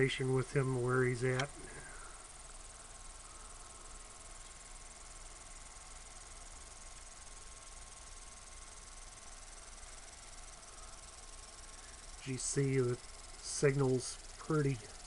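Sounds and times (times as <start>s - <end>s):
radio receiver band noise hiss: 0.0s - 15.0s
thin steady tone: 0.0s - 15.0s.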